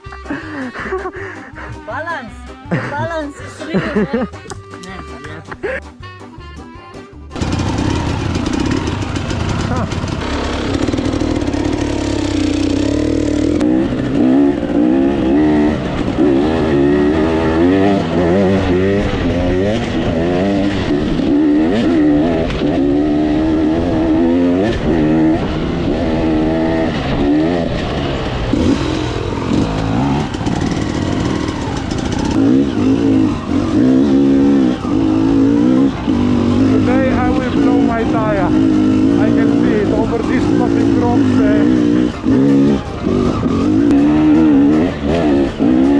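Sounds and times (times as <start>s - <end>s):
dirt bike engine revving: 7.3s - 45.9s.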